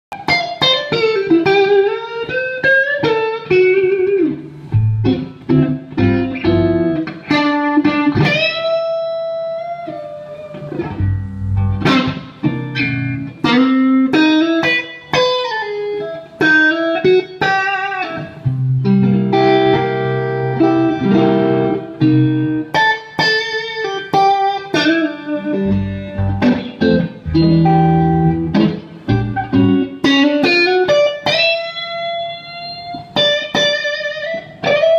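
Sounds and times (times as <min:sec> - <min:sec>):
electric guitar playing: 0:00.1 - 0:34.9.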